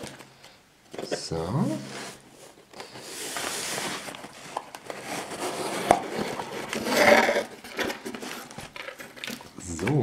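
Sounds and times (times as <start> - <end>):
packing paper rustling: 2.0 - 10.0.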